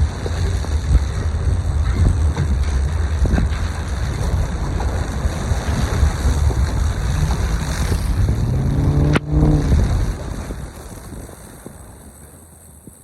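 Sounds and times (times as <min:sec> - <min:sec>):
low droning hum rising in pitch: 0:00.0 - 0:10.5
storm wind buffeting microphone: 0:00.0 - 0:13.0.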